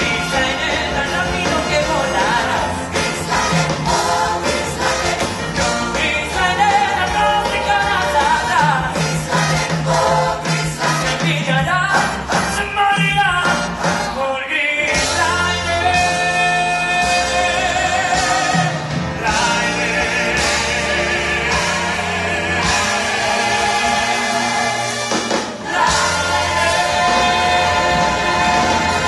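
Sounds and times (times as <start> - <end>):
cast singing with band: 0.0 - 12.6, 14.8 - 29.0.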